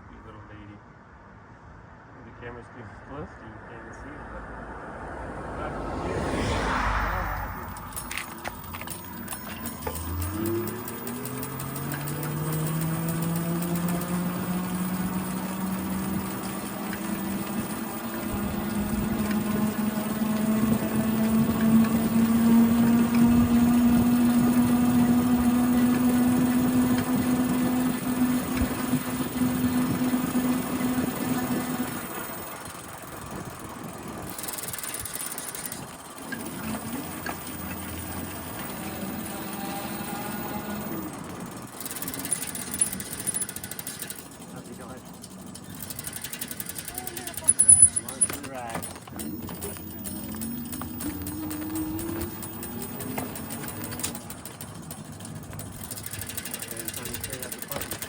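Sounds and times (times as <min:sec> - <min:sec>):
bicycle whine: 0:04.6 - 0:58.0.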